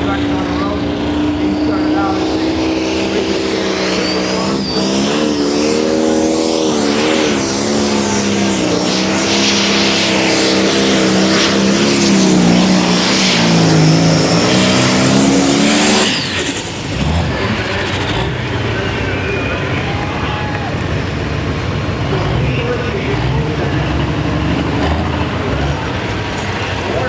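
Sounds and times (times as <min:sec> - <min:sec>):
engine at full throttle: 0:00.0 - 0:27.0.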